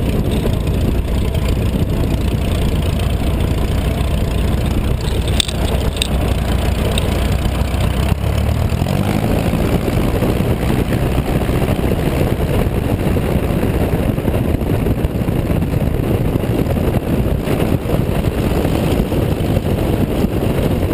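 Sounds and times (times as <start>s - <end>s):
propeller plane engine running: 0.0s - 20.9s.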